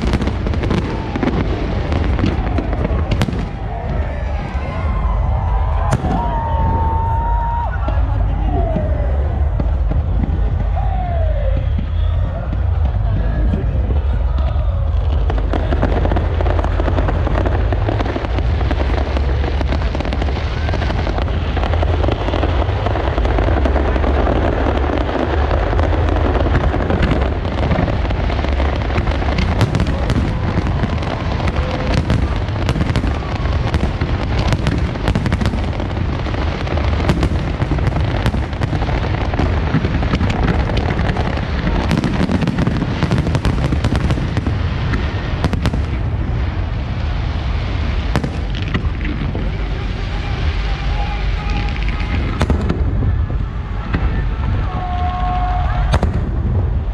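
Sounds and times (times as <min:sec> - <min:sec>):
crackling firework bursts: 0:00.0 - 0:56.9
deep firework booms: 0:00.0 - 0:56.9.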